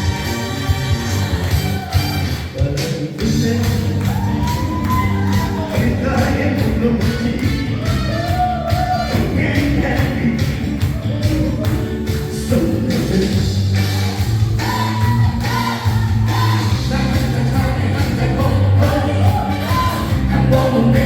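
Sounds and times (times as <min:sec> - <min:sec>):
steady drum beat and bass: 0:00.0 - 0:21.0
sung vocal melody: 0:02.4 - 0:21.0.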